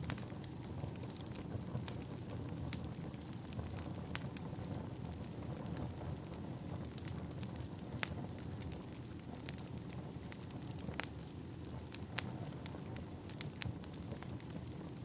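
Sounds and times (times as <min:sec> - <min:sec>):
fire crackles and pops: 0:00.0 - 0:15.0
firewood burning rumble: 0:00.0 - 0:15.0.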